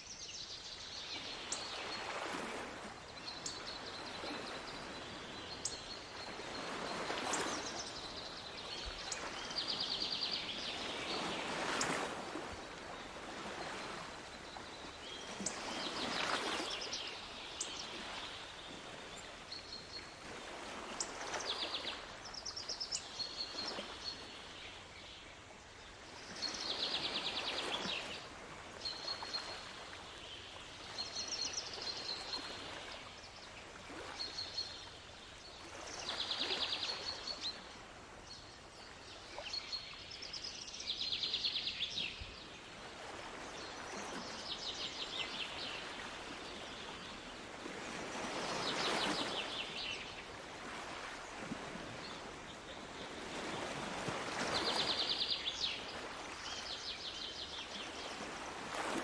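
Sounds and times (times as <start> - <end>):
small waves washing: 0.0 - 59.0.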